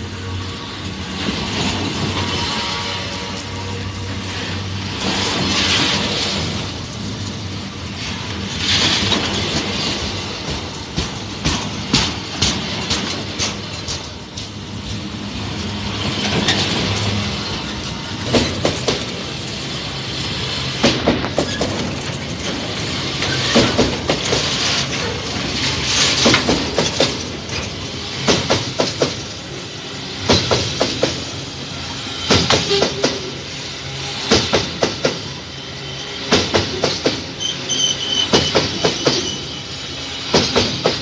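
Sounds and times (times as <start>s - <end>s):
wheels clacking over rail joints: 0.0s - 35.4s, 36.1s - 41.0s
freight train rumbling past: 0.0s - 41.0s.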